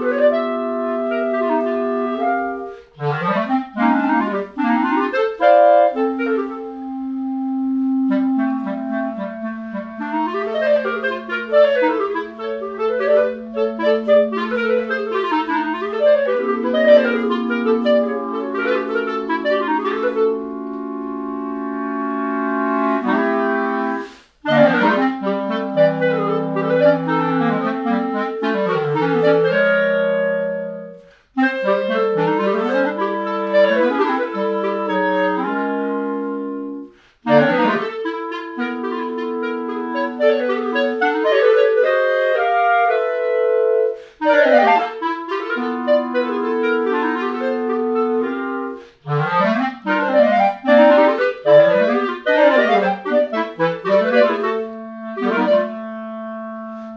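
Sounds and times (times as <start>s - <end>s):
clarinet playing quick runs: 0.0s - 56.9s.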